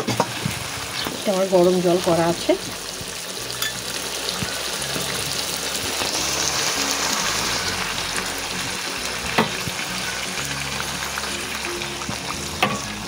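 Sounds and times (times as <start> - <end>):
curry sizzling in oil: 0.0 - 13.0.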